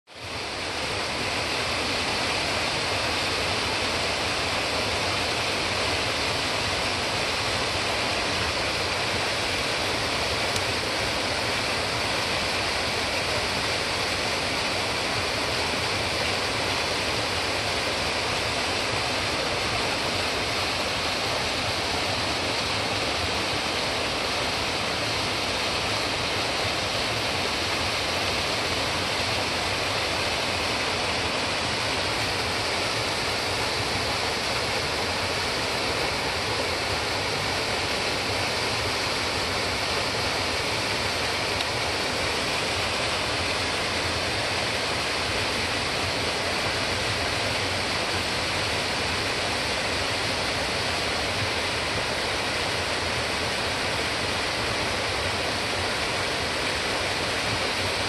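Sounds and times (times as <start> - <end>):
waterfall rushing: 0.1 - 58.0.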